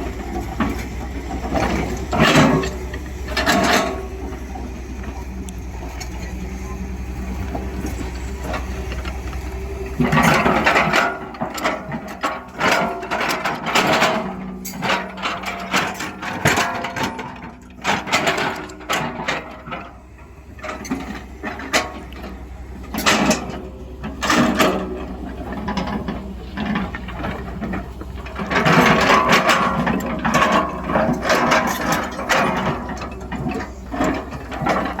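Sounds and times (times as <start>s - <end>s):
diesel engine running: 0.0s - 35.0s
metallic clanks and scraping rattles: 0.0s - 35.0s.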